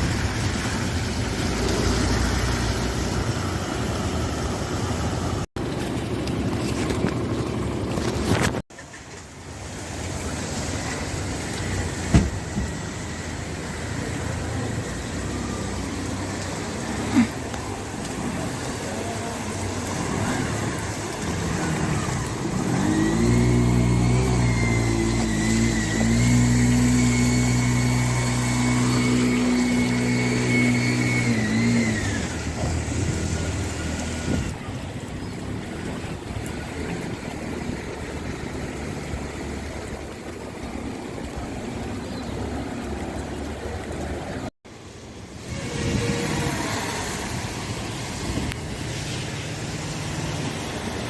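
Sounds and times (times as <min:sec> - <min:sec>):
traffic background: 0:00.0 - 0:51.0.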